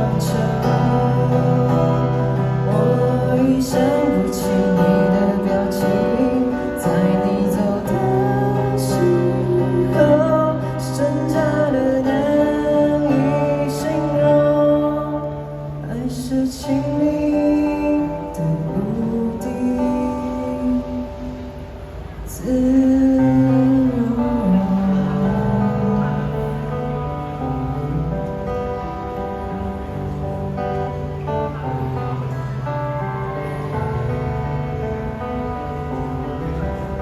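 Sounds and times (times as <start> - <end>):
guitar accompaniment: 0.0 - 37.0.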